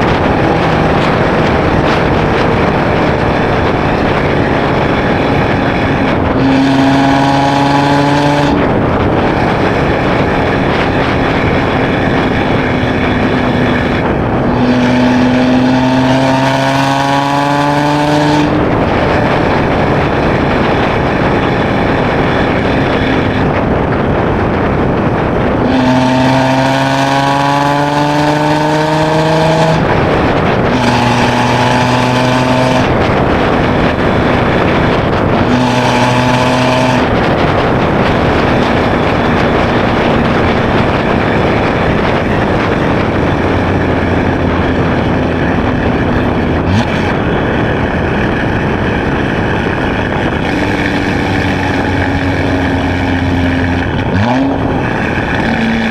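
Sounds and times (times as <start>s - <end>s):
car exhaust and engine accelerating: 0.0s - 55.9s
road noise: 0.0s - 55.9s.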